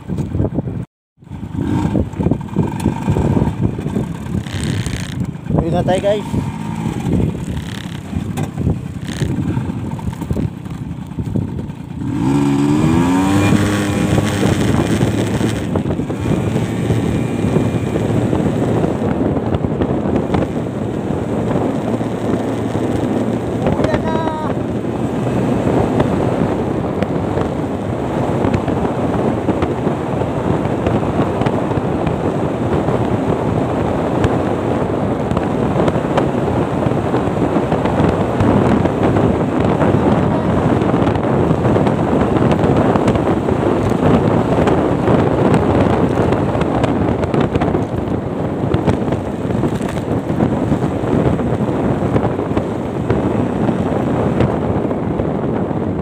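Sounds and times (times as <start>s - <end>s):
motorcycle engine: 0.0s - 56.0s
wind buffeting microphone: 0.0s - 56.0s.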